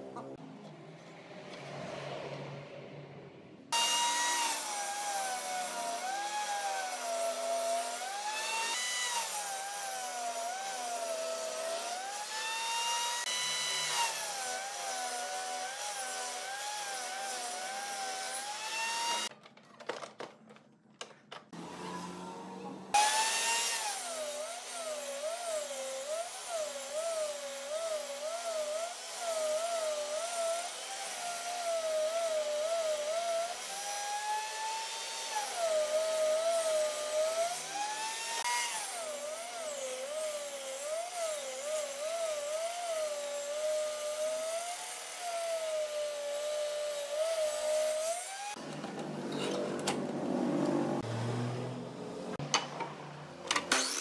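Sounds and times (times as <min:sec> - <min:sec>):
table saw ripping wood: 0:03.7 - 0:19.3, 0:22.9 - 0:51.5, 0:53.5 - 0:54.0.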